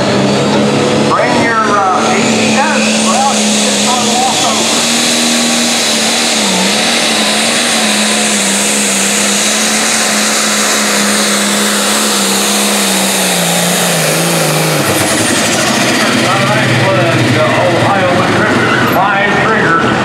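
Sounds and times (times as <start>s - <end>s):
diesel engine at full throttle: 0.0s - 20.0s.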